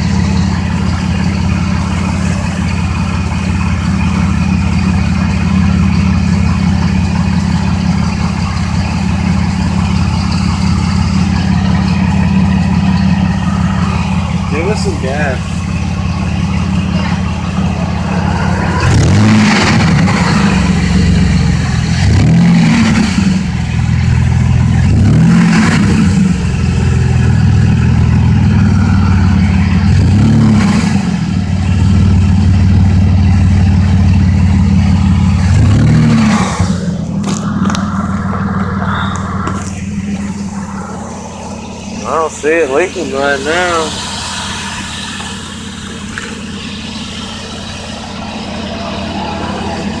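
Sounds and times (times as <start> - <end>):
pickup truck engine revving: 0.0 - 50.0.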